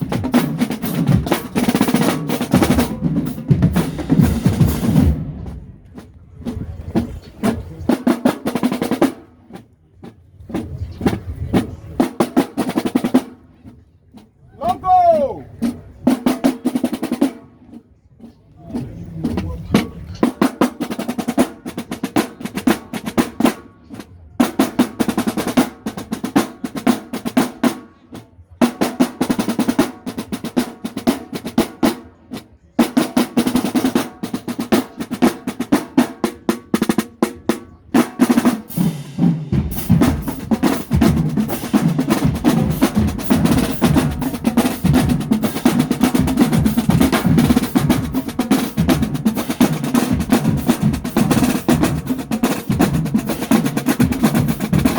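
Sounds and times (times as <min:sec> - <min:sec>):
snare drum rolls: 0:00.0 - 0:09.7, 0:18.8 - 0:54.9
deeper drums: 0:00.0 - 0:54.9.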